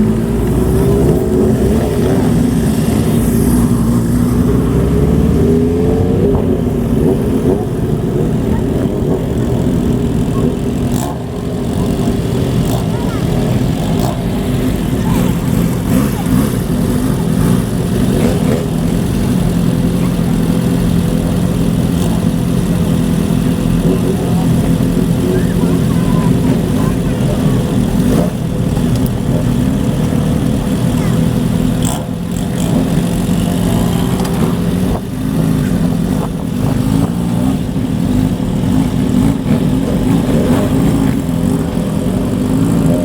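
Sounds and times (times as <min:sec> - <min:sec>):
motorcycle engines running: 0:00.0 - 0:43.0.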